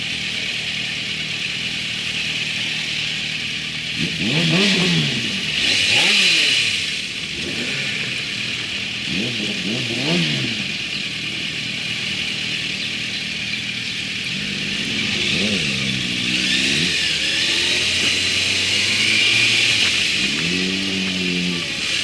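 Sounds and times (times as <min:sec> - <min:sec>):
motorcycle engine revving: 0:00.0 - 0:22.0
rushing air and road noise: 0:00.0 - 0:22.0.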